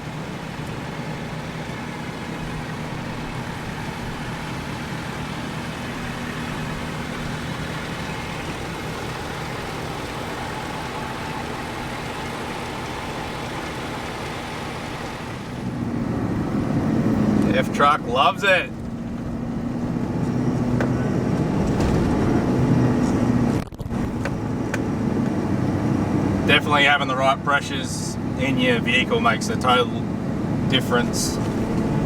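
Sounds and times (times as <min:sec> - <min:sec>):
road noise: 0:00.0 - 0:32.0
truck engine hum: 0:00.0 - 0:32.0.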